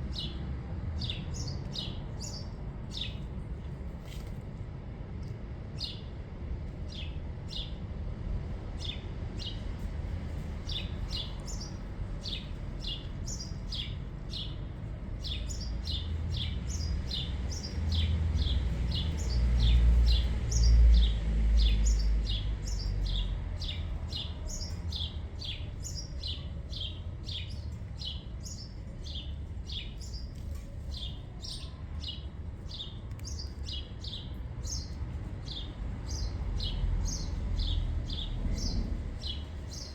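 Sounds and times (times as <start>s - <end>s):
small birds chirping: 1.0s - 3.4s, 8.6s - 39.9s.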